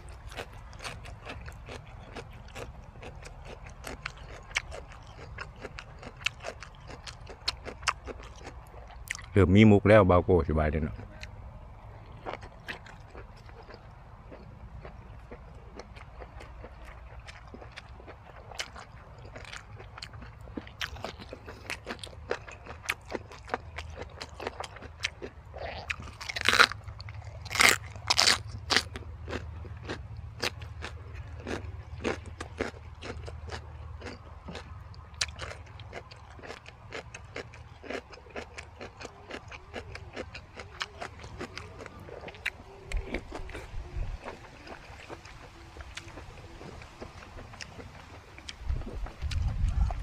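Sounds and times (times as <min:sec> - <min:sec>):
chewing and crunching food: 0:00.0 - 0:50.0.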